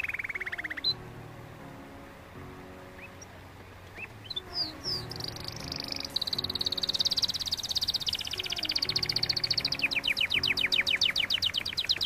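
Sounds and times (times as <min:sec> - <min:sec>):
canary chirping and trilling: 0:00.0 - 0:01.0, 0:02.9 - 0:12.0
soft background music: 0:00.0 - 0:12.0.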